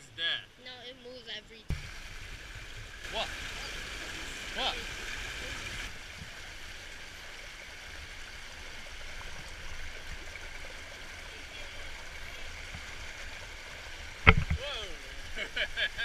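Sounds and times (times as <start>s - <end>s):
creek water rushing over rocks: 1.7s - 16.0s.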